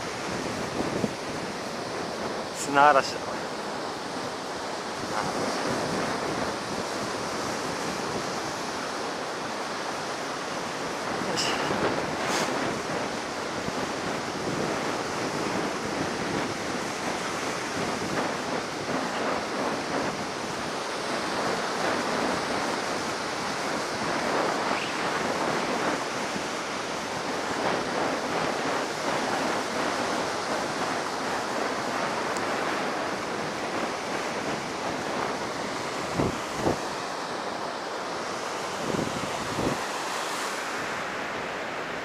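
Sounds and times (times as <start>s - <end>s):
heavy surf breaking: 0.0s - 42.0s
wind buffeting microphone: 0.0s - 42.0s.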